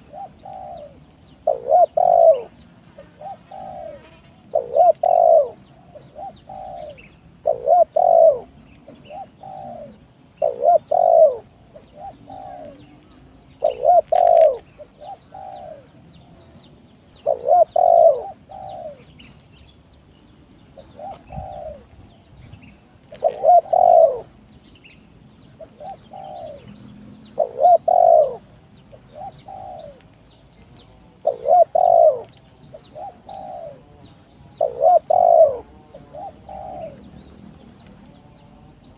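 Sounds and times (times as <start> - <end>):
dove cooing: 0.0 - 16.0, 17.2 - 19.2, 20.7 - 22.0, 23.0 - 24.4, 25.6 - 30.1, 31.2 - 34.0, 34.6 - 38.9
small birds chirping: 0.0 - 38.9.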